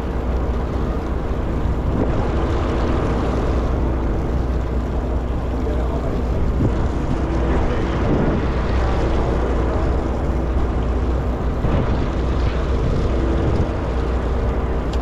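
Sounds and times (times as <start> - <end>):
boat engine rumbling: 0.0 - 15.0
water noise: 0.0 - 15.0
wind: 0.0 - 15.0.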